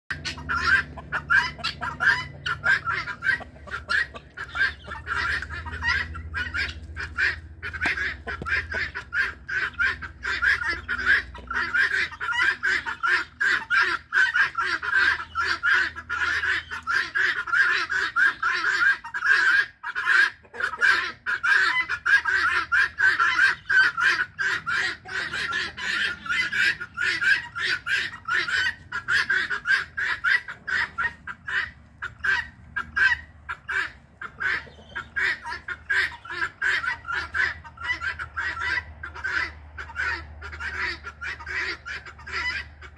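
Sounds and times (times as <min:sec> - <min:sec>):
guinea fowl alarm squawks: 0:00.1 - 0:42.9.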